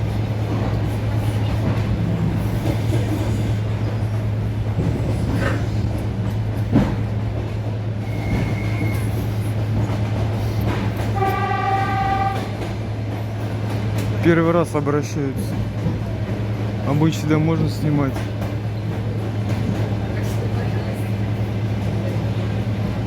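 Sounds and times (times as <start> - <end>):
electric train hum: 0.0 - 23.0
wheels rumbling on track: 0.0 - 23.0.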